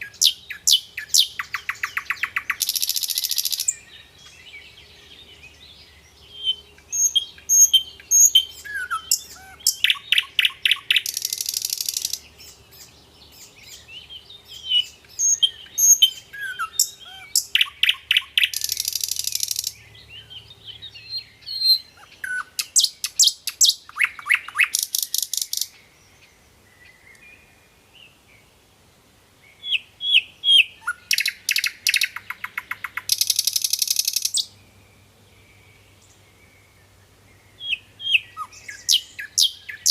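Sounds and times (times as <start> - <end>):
bird chirping and trilling: 0.0 - 25.8, 29.6 - 34.6, 37.5 - 39.9.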